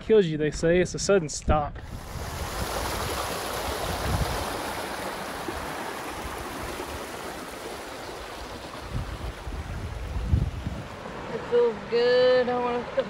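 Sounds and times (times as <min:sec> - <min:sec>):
stream rushing over rocks: 0:01.9 - 0:13.0.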